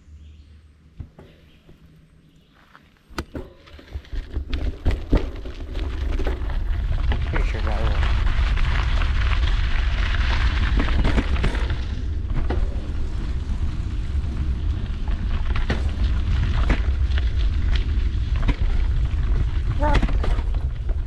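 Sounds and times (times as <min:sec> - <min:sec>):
bike tyre noise on trail: 0:00.0 - 0:21.0
bike clicks and rattles: 0:03.2 - 0:21.0.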